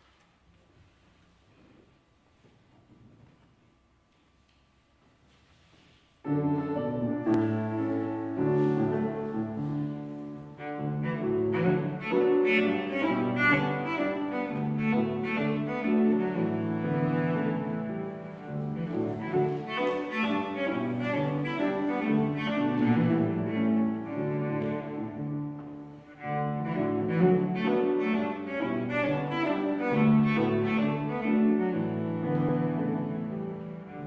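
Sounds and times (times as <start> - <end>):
grand piano: 6.0 - 34.0
cello melody: 6.2 - 34.0.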